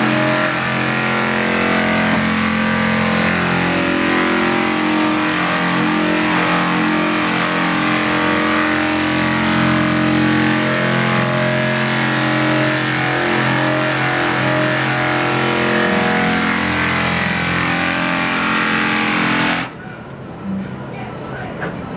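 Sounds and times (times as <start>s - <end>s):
air sander humming: 0.0s - 19.8s.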